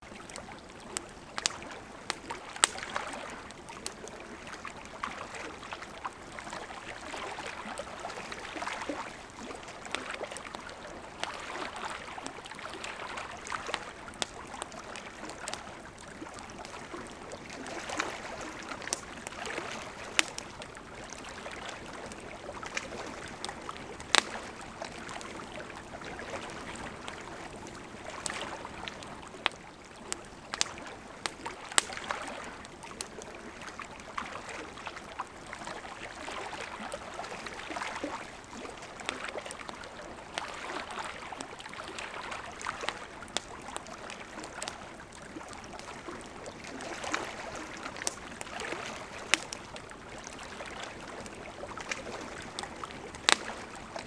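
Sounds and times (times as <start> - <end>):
campfire crackling: 0.1 - 54.0.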